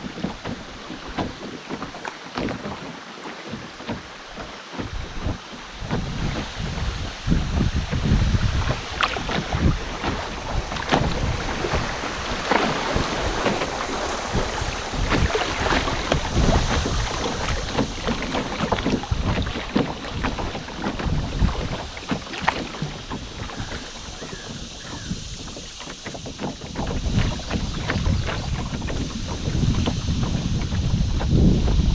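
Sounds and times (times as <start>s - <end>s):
canoe paddle strokes: 0.0s - 31.9s
knocks on canoe: 0.0s - 31.9s
water splashing against canoe: 0.0s - 31.9s
wind buffeting microphone: 3.5s - 31.9s.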